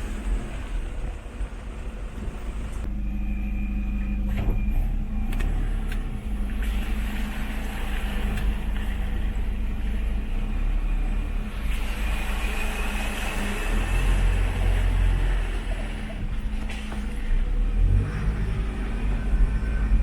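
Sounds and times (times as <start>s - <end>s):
minibus engine running: 0.0s - 20.0s
road rumble: 0.0s - 20.0s.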